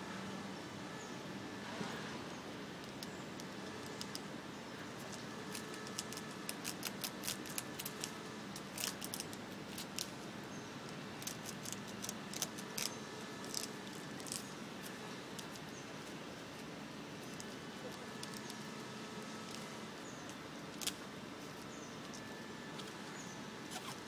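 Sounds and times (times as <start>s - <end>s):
squirrel gnawing dry stalk: 2.6s - 24.0s.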